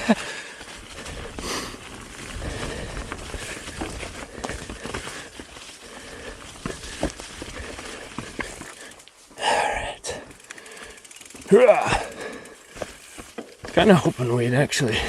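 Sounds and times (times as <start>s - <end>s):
bike clicks and rattles: 0.0s - 14.3s
bike tyre rolling on snow: 0.0s - 15.0s.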